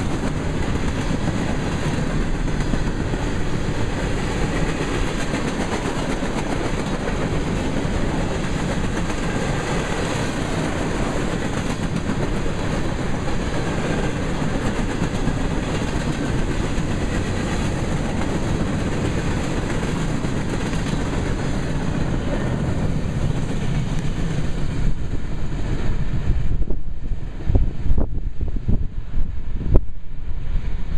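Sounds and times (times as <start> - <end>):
freight train wheels on track: 0.0 - 30.9.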